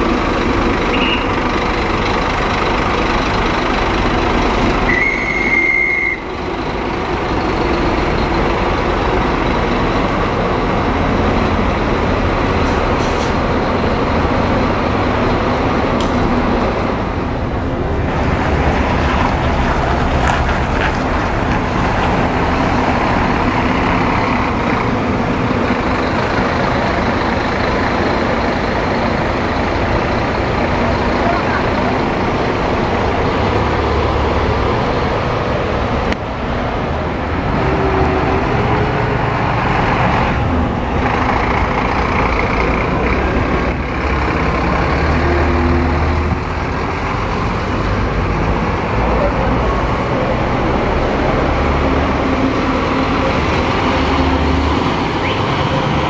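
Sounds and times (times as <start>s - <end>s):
diesel coach engine running: 0.0s - 56.0s
traffic: 0.0s - 56.0s.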